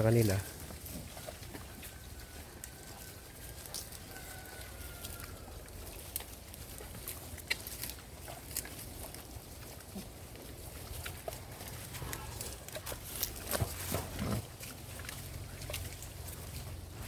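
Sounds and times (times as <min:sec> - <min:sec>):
pigs clicking and knocking: 0:00.0 - 0:17.0.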